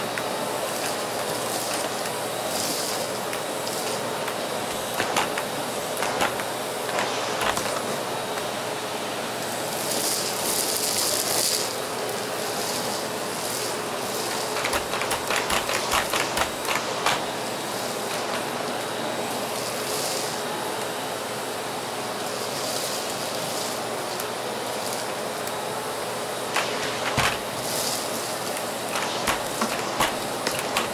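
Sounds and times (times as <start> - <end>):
paper shreds rattling in hose: 0.0 - 8.2, 9.6 - 20.5, 22.2 - 25.5, 26.3 - 30.9
vacuum cleaner running: 0.0 - 30.9.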